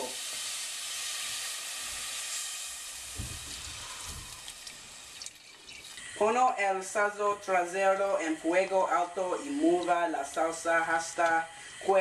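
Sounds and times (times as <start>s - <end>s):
milk sizzling in hot pan: 0.0s - 12.0s.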